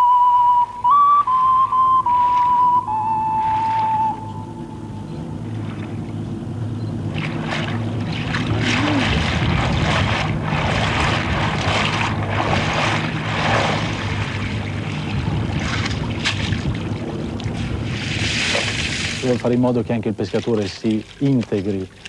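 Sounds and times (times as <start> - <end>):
boat engine humming: 0.0 - 22.0
water splashing and rushing: 1.7 - 22.0.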